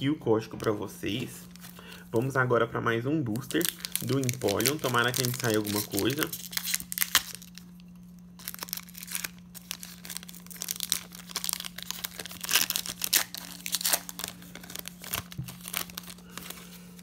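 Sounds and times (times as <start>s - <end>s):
foil wrapper tearing and crinkling: 3.3s - 17.0s.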